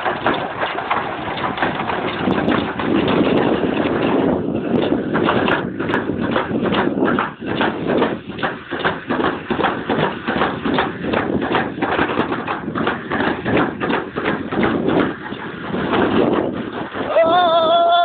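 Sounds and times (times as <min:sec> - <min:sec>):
sled rolling rumble: 0:00.0 - 0:18.0
wheels clacking over track joints: 0:00.0 - 0:18.0.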